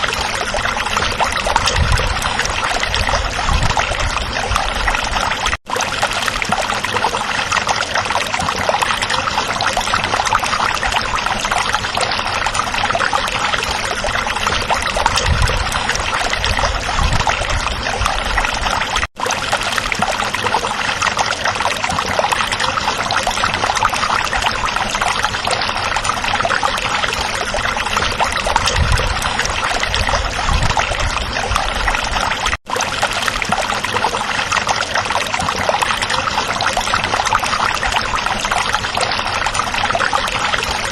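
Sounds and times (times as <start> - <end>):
stream babbling and gurgling: 0.0 - 40.9.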